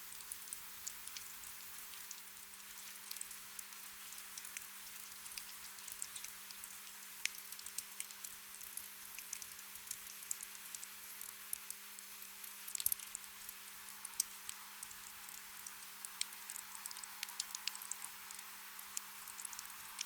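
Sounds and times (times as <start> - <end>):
faint steady hum: 0.0 - 20.0
soft rain hiss: 0.0 - 20.0
raindrops ticking: 0.1 - 11.8, 12.4 - 20.0.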